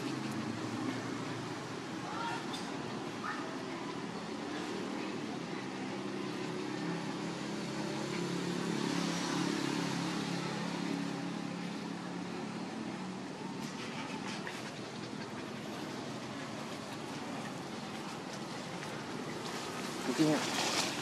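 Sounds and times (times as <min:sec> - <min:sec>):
vehicle engine passing by: 0:03.0 - 0:21.0.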